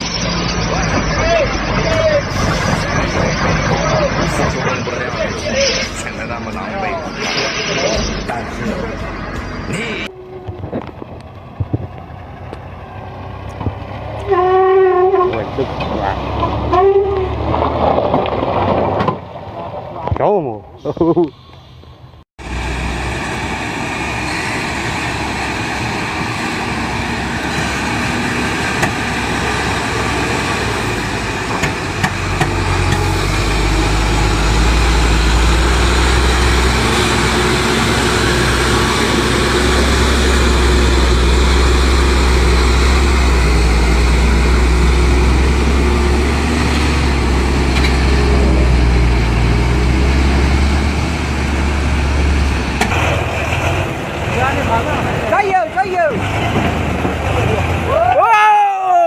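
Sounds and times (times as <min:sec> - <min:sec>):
truck engine rumbling: 0:00.0 - 0:58.6.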